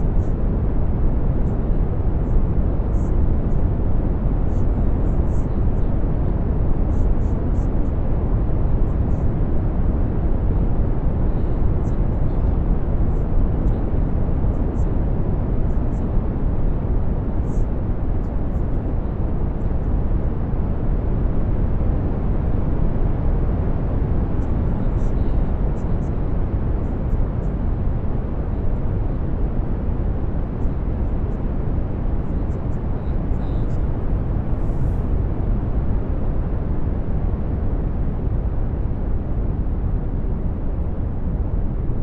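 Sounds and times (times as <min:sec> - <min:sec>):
brown noise rumbling hiss: 0:00.0 - 0:42.0.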